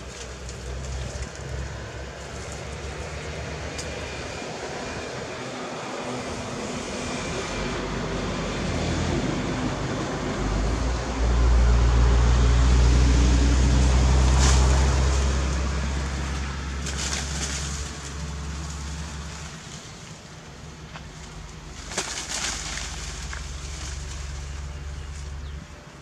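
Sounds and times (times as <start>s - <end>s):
passing vehicle engine drone: 0.0s - 26.0s.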